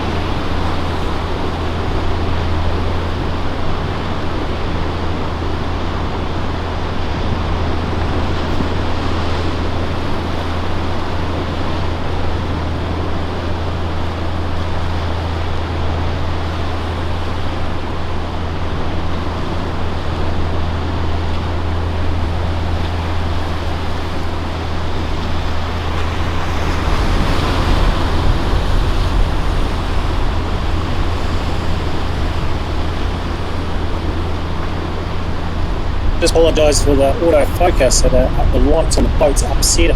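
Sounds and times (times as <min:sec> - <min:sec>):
low engine hum: 0:00.0 - 0:39.9
surf: 0:00.0 - 0:39.9.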